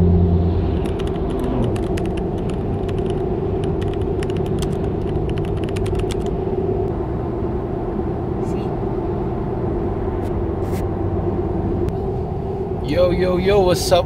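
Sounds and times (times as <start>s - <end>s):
road noise inside vehicle cab: 0.0s - 14.0s.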